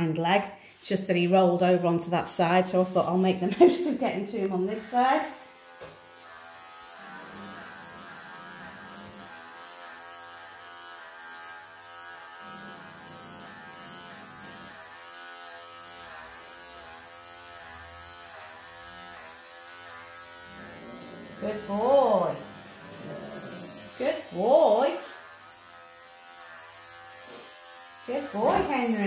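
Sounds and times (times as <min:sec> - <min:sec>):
electric pet clippers buzzing: 0:03.5 - 0:29.0.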